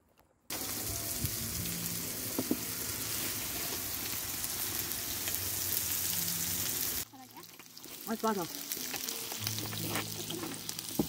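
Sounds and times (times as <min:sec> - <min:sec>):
meat sizzling on a griddle: 0:00.5 - 0:11.0.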